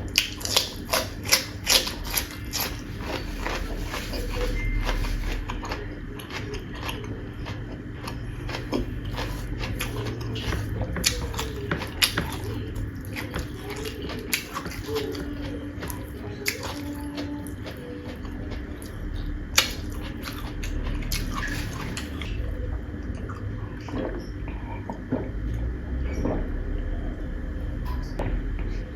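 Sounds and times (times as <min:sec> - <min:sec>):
person chewing and crunching: 0:00.0 - 0:25.7.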